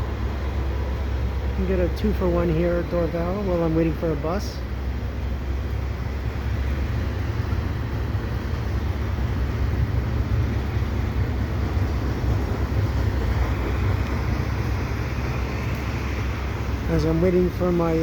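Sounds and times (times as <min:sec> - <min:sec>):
freight train rolling past: 0:00.0 - 0:18.0
heavy rain: 0:00.0 - 0:18.0.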